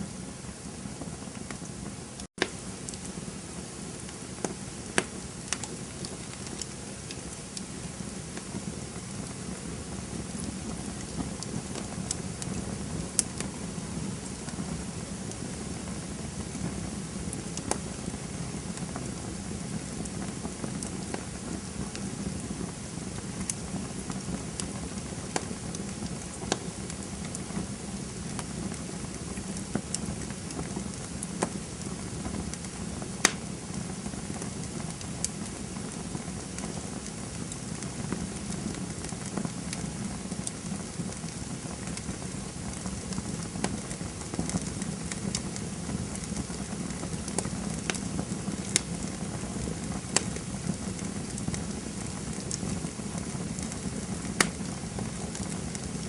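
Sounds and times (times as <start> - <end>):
campfire burning: 0.0 - 56.0
fire crackles and pops: 0.0 - 56.0.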